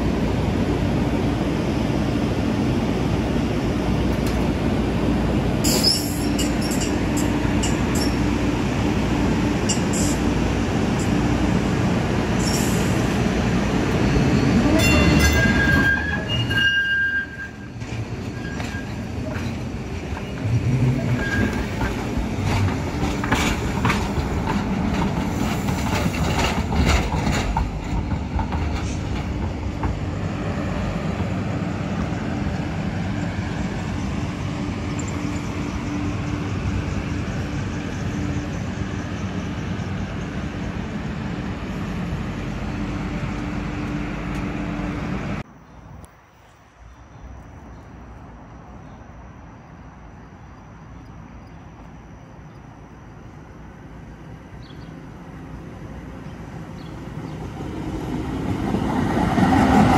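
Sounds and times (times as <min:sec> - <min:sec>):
light-rail train rumbling: 0:00.0 - 0:59.9.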